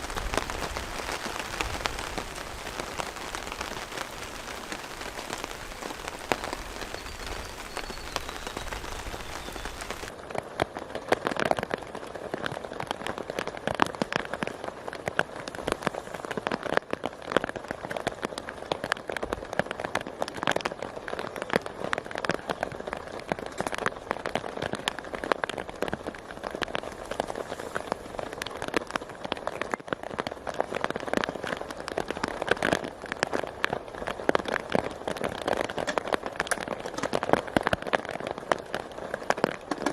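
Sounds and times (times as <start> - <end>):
rain drops hitting a surface: 0.0 - 39.9
steady rain: 0.0 - 39.9.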